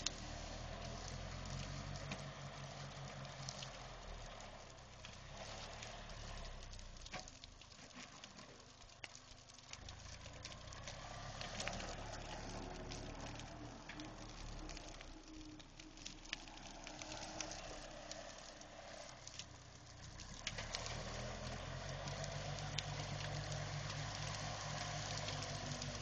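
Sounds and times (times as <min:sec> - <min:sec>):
branches crackling and snapping: 0:00.0 - 0:26.0.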